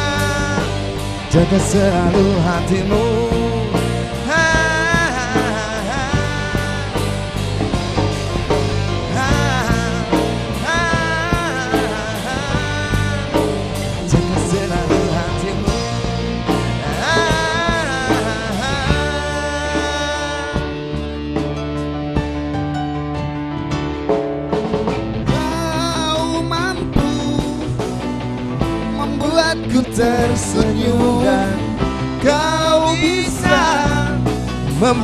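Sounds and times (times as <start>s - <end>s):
live band playing pop ballad: 0.0s - 35.0s
wavering lead melody: 0.0s - 35.0s.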